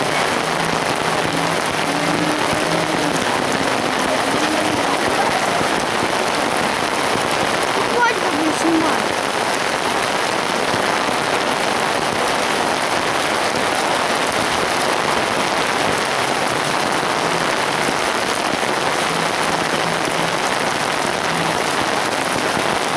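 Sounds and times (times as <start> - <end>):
heavy rain pouring on street: 0.0 - 22.9.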